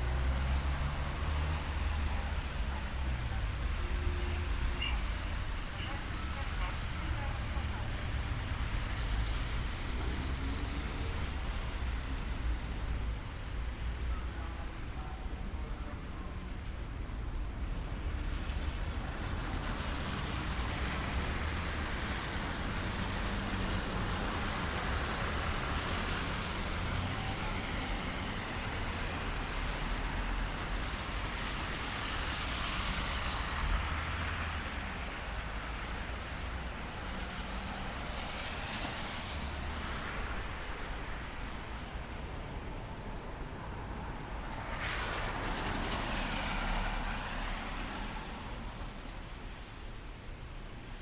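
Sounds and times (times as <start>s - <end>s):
car tyres hissing on wet road: 0.0s - 14.8s, 16.6s - 51.0s
rain on street: 0.0s - 51.0s.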